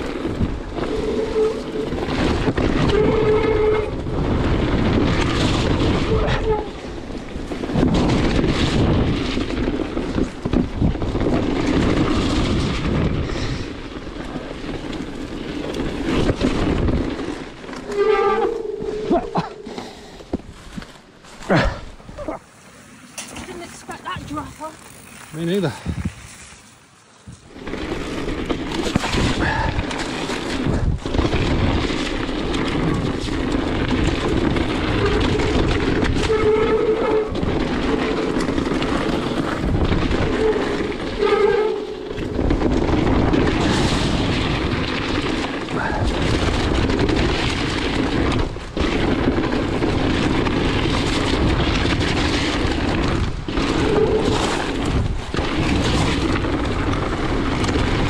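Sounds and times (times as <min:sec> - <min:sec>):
wind rushing on microphone: 0:00.0 - 0:14.2, 0:24.1 - 0:26.4, 0:27.3 - 0:58.0
bike rattling: 0:00.0 - 0:58.0
tyres running over gravel: 0:00.0 - 0:58.0.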